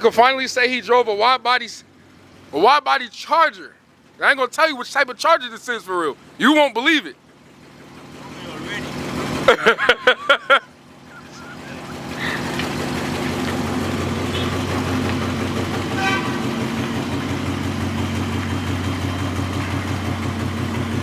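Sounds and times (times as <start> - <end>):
car engine and exhaust drone: 0.0 - 21.0.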